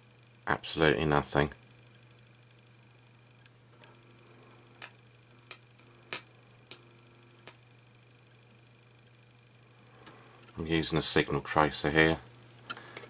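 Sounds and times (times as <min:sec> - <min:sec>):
low steady electrical hum: 0:00.0 - 0:13.0.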